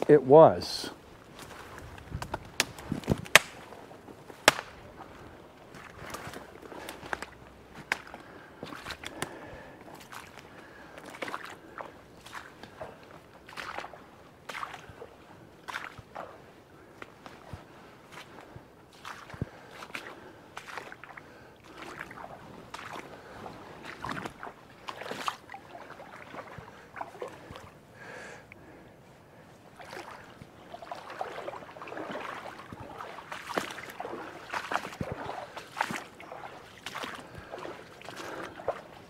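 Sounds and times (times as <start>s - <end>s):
footsteps sloshing through water: 0.0s - 39.0s.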